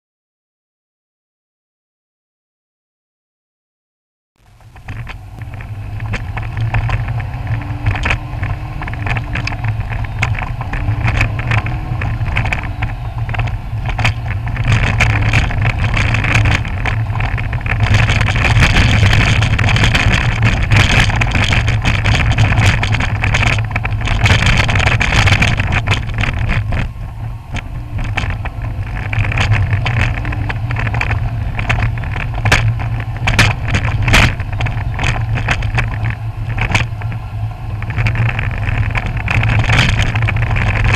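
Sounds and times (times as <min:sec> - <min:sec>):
car engine running: 0:04.4 - 0:40.9
tyres crunching over gravel: 0:04.4 - 0:40.9.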